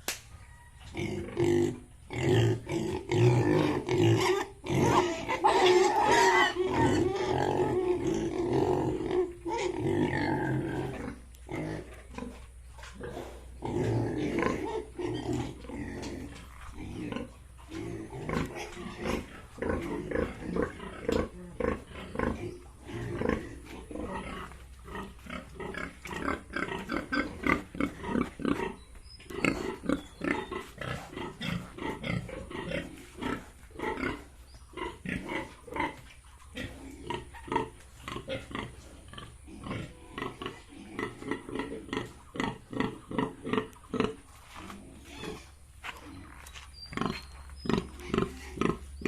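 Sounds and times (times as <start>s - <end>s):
pigs grunting: 0.9s - 49.0s.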